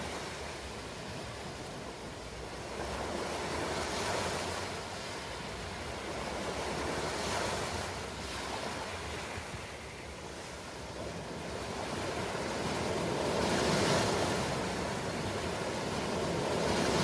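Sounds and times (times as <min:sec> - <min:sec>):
ocean waves washing onto shore: 0:00.0 - 0:17.0.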